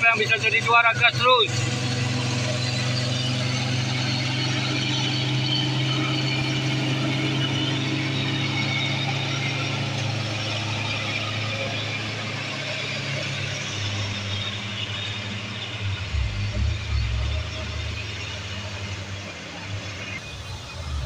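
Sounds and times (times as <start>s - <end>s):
diesel truck engines labouring: 0.0s - 21.0s.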